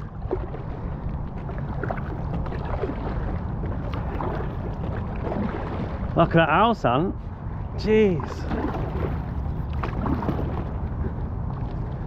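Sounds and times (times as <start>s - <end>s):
kayak paddling in water: 0.0s - 12.0s
wind rumble on microphone: 0.0s - 12.0s.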